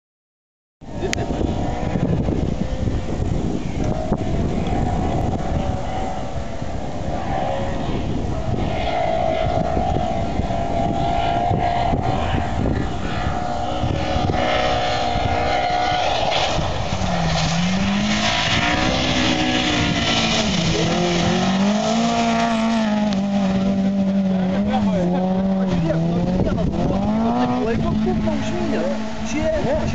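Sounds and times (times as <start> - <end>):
rally car engine at full throttle: 0.8 - 29.9
wind buffeting microphone: 0.8 - 29.9.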